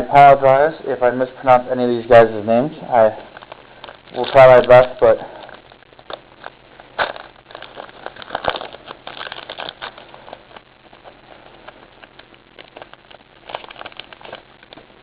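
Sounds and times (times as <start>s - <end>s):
wrapper crinkling and tearing: 3.0s - 15.0s.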